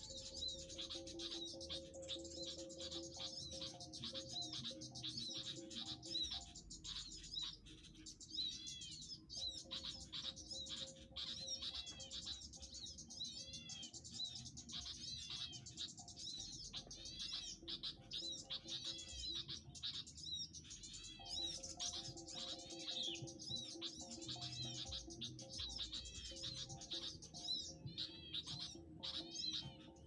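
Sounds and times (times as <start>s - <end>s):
background music with held tones: 0.0s - 30.0s
small birds chirping: 0.0s - 30.0s.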